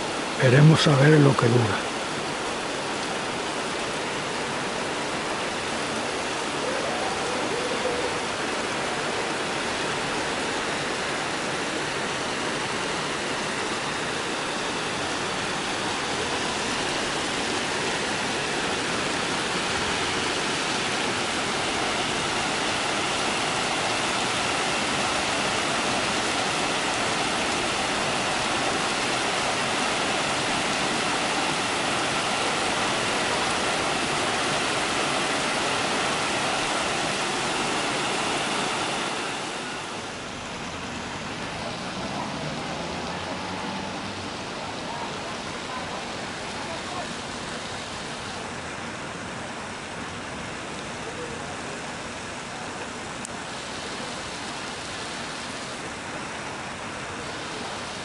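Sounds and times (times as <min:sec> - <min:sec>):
heavy rain on roofs and streets: 0:00.0 - 0:58.0.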